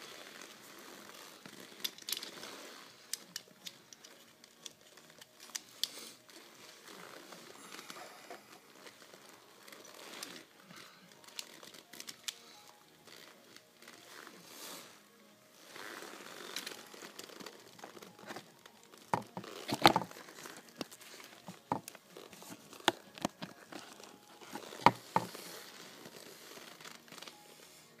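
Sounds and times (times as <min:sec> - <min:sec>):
leather clothing creaking: 0:00.0 - 0:28.0.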